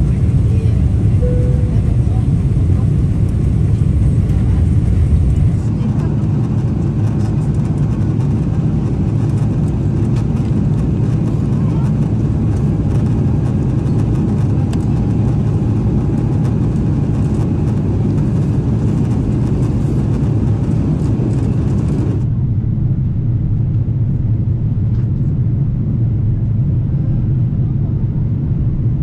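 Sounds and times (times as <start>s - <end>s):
airplane cabin engine roar: 0.0s - 29.0s.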